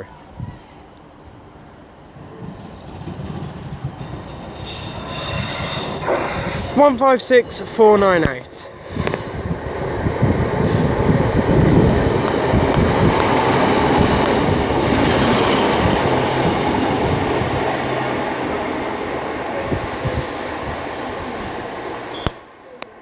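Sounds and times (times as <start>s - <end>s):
diesel train engines: 0.0s - 23.0s
train wheels on rails: 1.2s - 23.0s.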